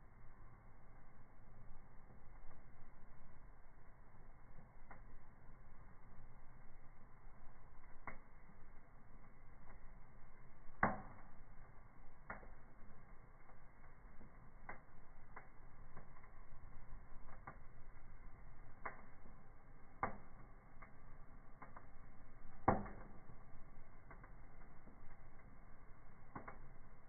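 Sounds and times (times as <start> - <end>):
fire crackling and popping: 0.0 - 27.0.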